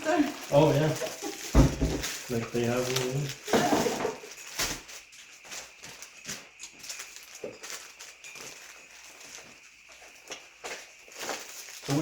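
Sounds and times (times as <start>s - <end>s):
packaged food being handled: 0.0s - 12.0s.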